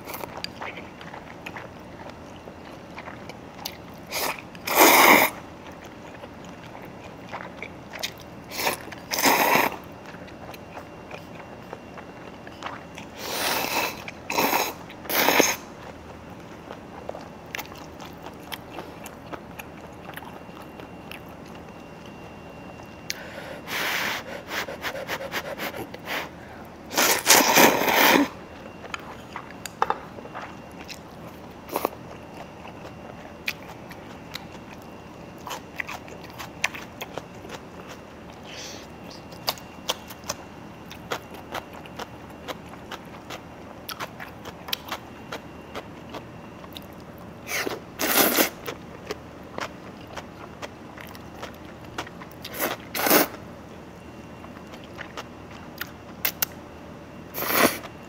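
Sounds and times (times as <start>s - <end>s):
quiet chewing: 0.0s - 23.6s, 24.3s - 53.4s, 54.0s - 56.6s.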